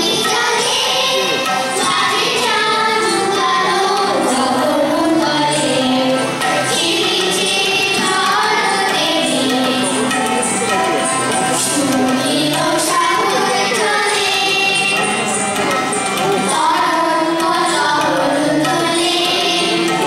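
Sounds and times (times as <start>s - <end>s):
choir of children and women singing: 0.0s - 15.6s, 16.3s - 20.0s
harmonium: 0.0s - 20.0s
tabla: 0.0s - 20.0s.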